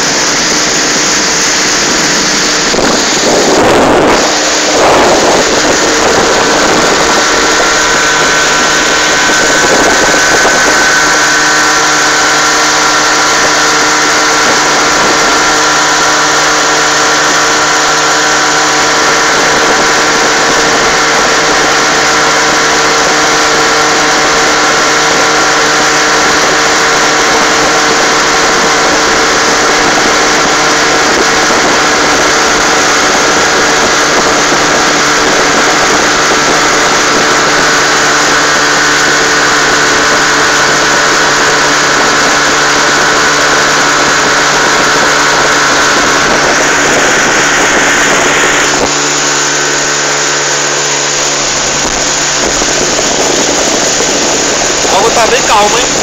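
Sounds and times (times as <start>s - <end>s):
outboard motor running: 0.0s - 56.0s
water rushing from boat wake: 0.0s - 56.0s.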